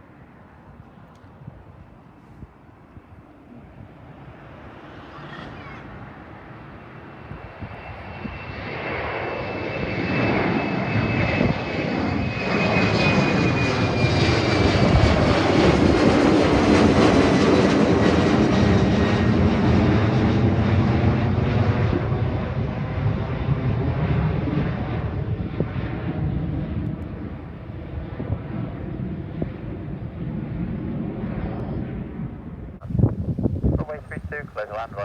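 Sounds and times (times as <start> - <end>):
airliner engines at takeoff: 0.0 - 35.0.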